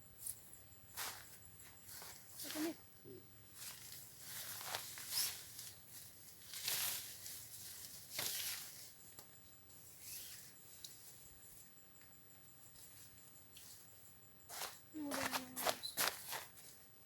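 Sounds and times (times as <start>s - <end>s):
rustling and scuffing: 0.2s - 2.8s, 3.5s - 11.6s, 12.7s - 17.0s.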